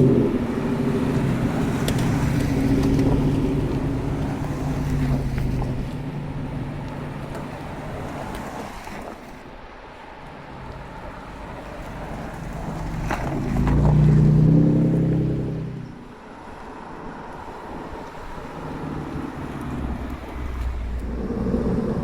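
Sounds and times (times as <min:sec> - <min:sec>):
cars driving past: 0:00.0 - 0:22.0.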